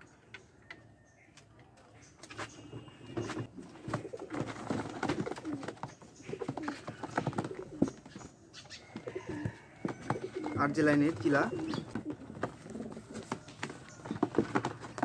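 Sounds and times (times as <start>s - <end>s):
knocks and scuffles: 2.2s - 15.0s
pigeons cooing: 2.4s - 15.0s.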